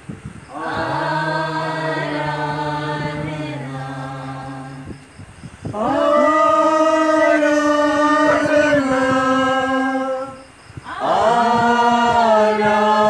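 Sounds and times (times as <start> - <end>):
congregation singing a hymn: 0.5 - 13.0.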